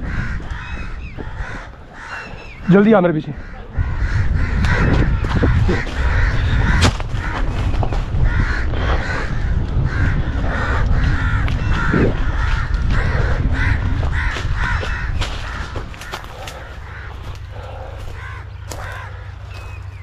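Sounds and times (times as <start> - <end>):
crows cawing: 0.0 - 20.0
heavy low rumble: 0.0 - 20.0.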